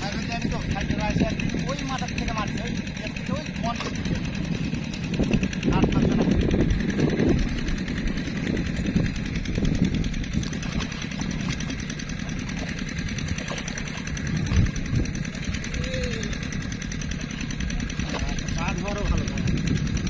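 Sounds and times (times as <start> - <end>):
low engine drone: 0.0 - 20.0.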